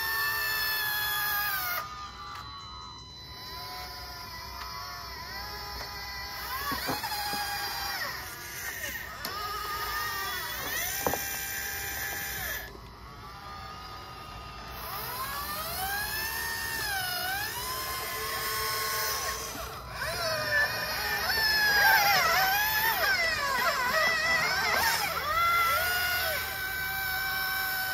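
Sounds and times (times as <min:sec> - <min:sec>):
hydraulic pump whine: 0:00.0 - 0:27.9.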